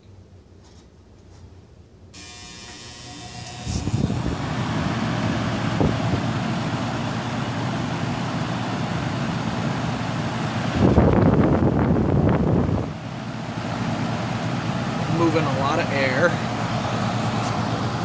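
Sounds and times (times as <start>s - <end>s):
fan motor hum: 0.0s - 18.0s
fan air rushing: 0.2s - 18.0s.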